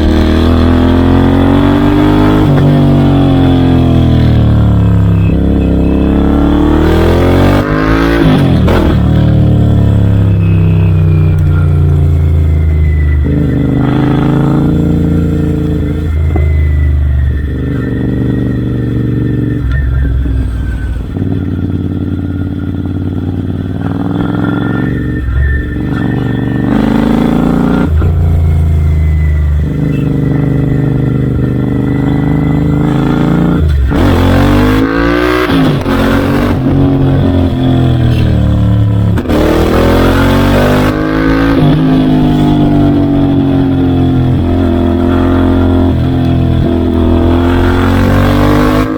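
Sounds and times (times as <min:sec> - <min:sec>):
motorcycle engine exhaust: 0:00.0 - 0:48.9.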